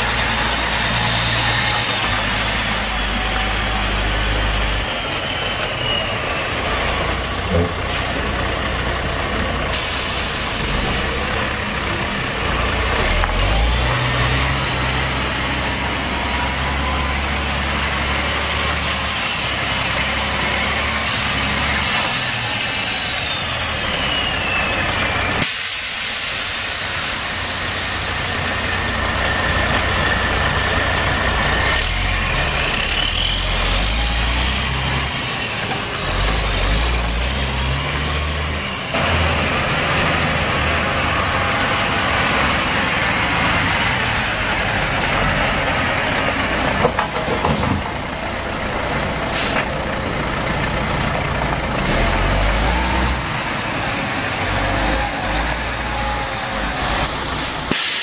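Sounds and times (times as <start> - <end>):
truck diesel engine driving: 0.0 - 58.0.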